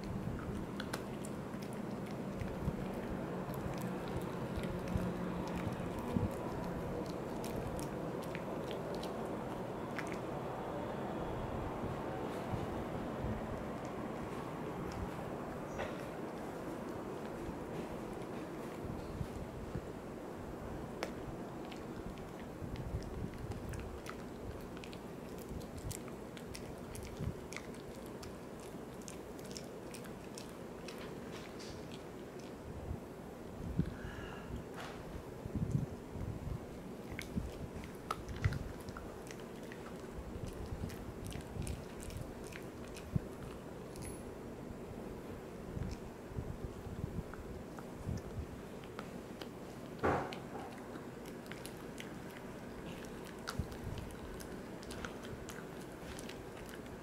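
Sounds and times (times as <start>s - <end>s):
dog chewing with crunches: 0.0s - 10.5s, 12.2s - 20.0s, 20.8s - 34.0s, 34.8s - 57.0s.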